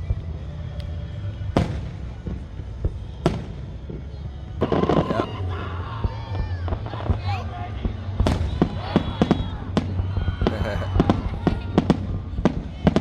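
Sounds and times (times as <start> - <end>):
fireworks crackling: 0.0 - 13.0
fireworks bangs: 1.5 - 13.0.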